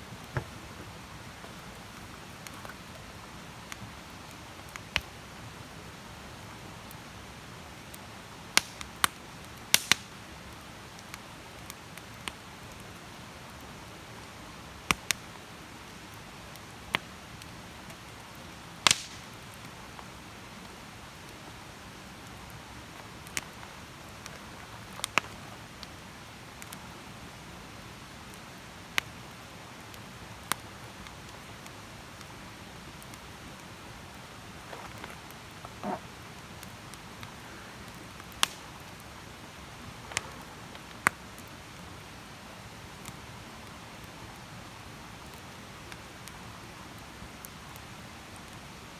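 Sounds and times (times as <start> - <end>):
campfire crackling: 0.0 - 48.9
soft steady hiss: 0.0 - 48.9.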